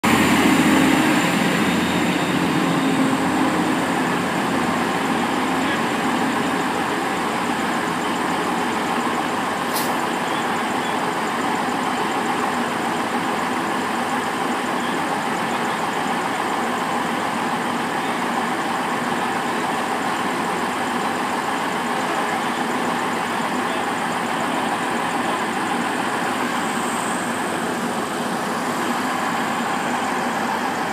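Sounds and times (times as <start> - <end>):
diesel train engines droning: 0.0 - 30.9.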